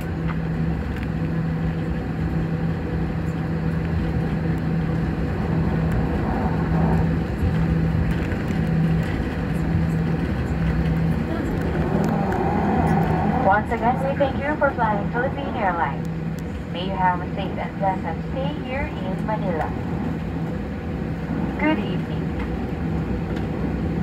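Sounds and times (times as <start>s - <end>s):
aircraft engines idling: 0.0s - 24.0s
low steady hum: 0.0s - 24.0s
airflow: 4.4s - 24.0s.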